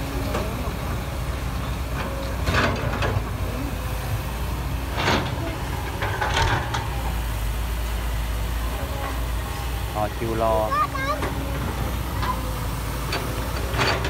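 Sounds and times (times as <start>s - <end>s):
diesel engines rumbling: 0.0s - 14.0s.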